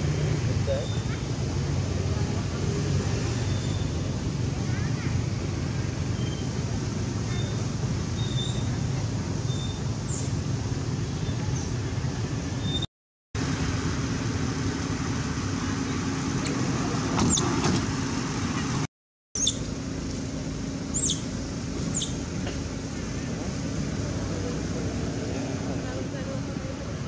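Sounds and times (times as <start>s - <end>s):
outdoor background rumble: 0.0s - 27.0s.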